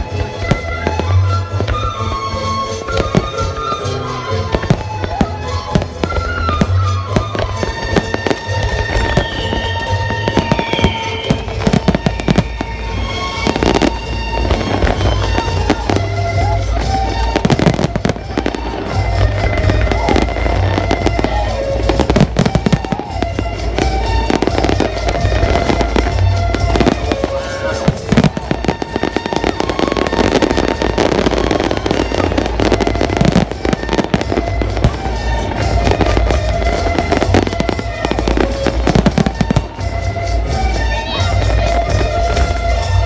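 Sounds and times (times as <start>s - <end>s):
fireworks bangs: 0.0s - 43.0s
loud music with deep bass: 0.0s - 43.0s.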